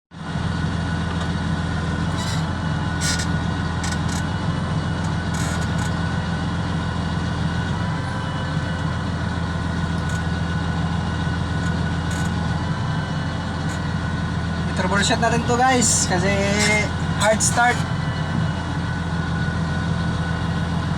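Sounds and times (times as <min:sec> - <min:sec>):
diesel tractor engine idling: 0:00.1 - 0:20.9.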